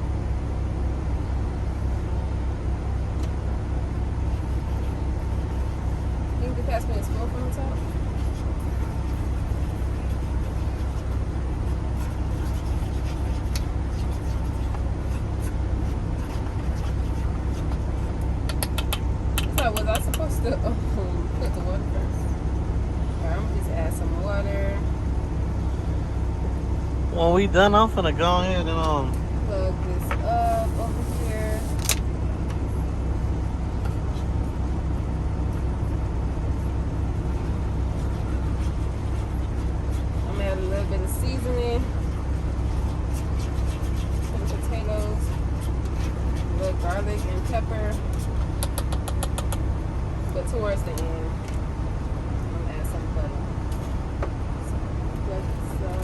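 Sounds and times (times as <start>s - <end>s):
road noise: 0.0s - 56.0s
truck driving low drone: 0.0s - 56.0s.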